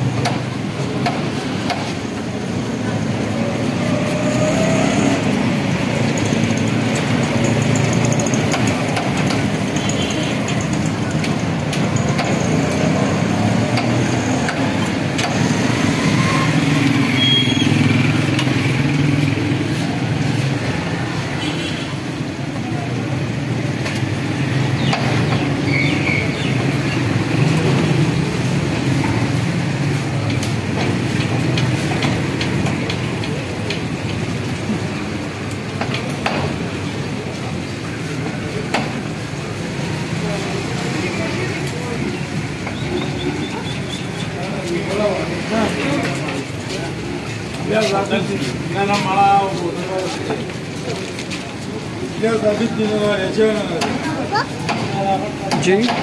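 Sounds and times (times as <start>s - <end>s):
motor traffic: 0.0s - 56.0s
motorcycle engines: 0.0s - 56.0s.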